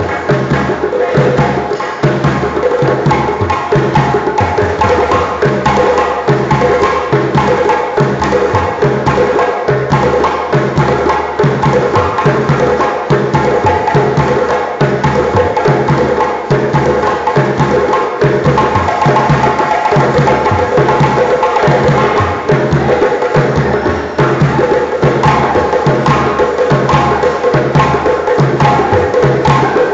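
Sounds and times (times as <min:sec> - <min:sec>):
hand drums playing fast rhythm: 0:00.0 - 0:29.9
woody clacking percussion: 0:00.0 - 0:29.9.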